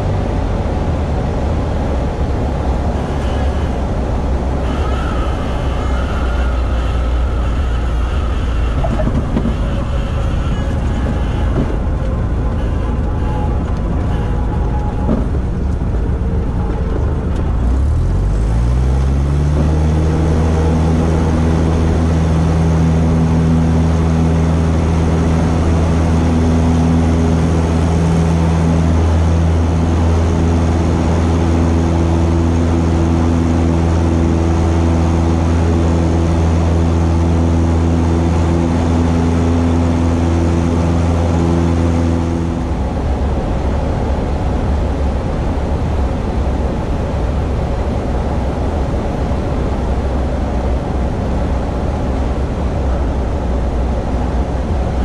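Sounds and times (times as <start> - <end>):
propeller plane engine: 0.0 - 55.0
rushing noise: 0.0 - 55.0.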